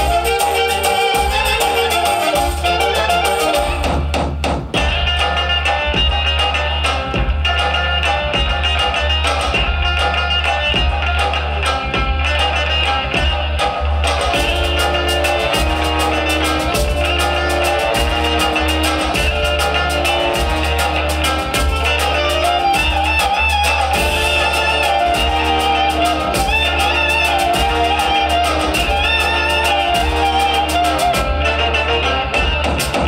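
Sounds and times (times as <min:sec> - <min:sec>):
music with steady beat and bass: 0:00.0 - 0:33.0.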